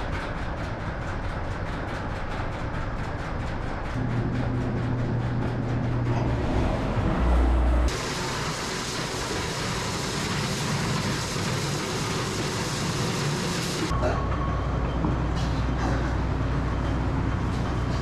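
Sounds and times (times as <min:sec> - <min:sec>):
heavy machinery running: 0:00.0 - 0:18.0.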